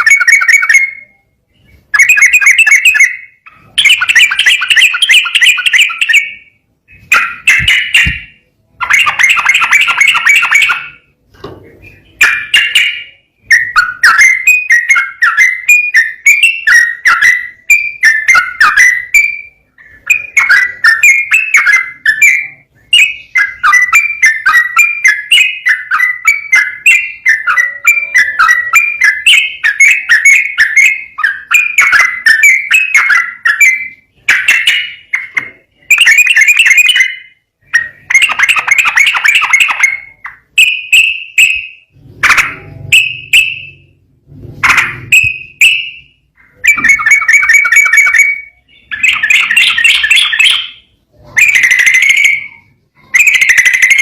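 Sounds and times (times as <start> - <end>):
bulbul chirping song: 0.0 - 54.0.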